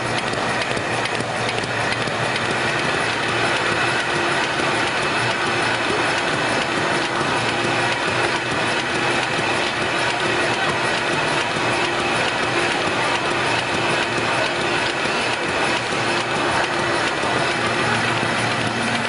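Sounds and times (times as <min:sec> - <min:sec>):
mailing machine clattering: 0:00.0 - 0:19.0.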